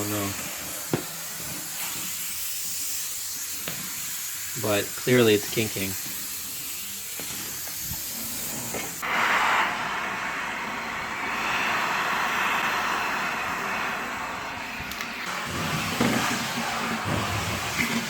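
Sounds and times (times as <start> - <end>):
vacuum hose sucking air: 0.0 - 18.0.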